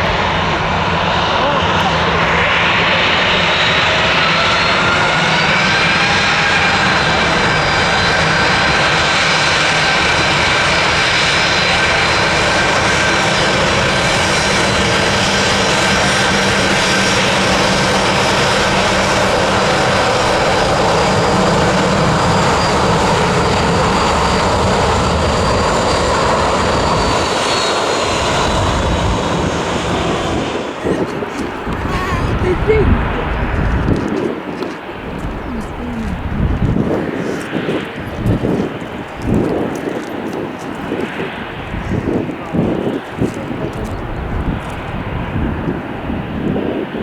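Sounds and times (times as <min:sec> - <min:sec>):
jet engine whine: 0:00.0 - 0:47.0
jet engines running: 0:00.0 - 0:47.0.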